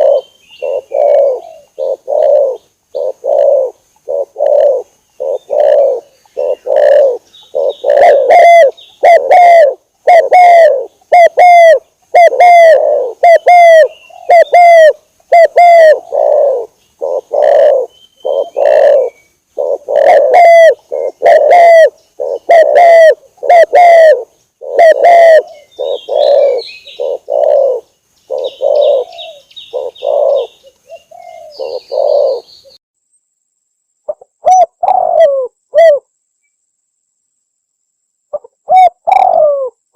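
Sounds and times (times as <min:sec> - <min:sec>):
dove cooing: 0:00.0 - 0:32.8, 0:34.1 - 0:36.1, 0:38.3 - 0:39.8.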